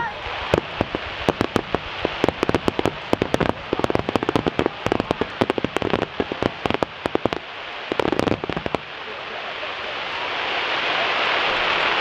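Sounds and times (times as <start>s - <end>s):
fireworks banging and crackling: 0.0s - 12.0s
steady hiss: 0.0s - 12.0s.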